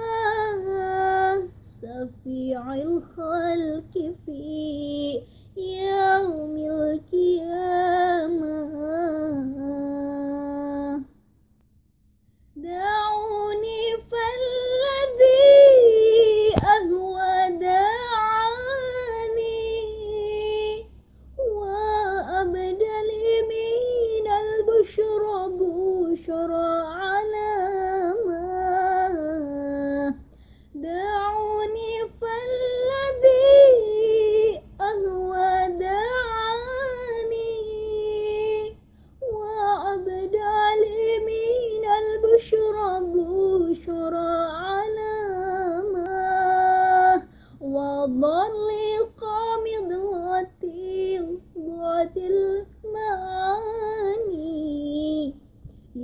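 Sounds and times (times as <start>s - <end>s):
girl singing unaccompanied: 0.0s - 11.2s, 12.6s - 56.0s.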